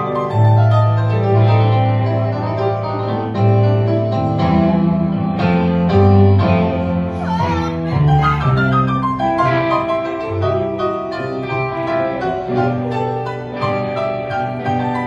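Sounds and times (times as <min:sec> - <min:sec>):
electric keyboard piano chords: 0:00.0 - 0:15.0.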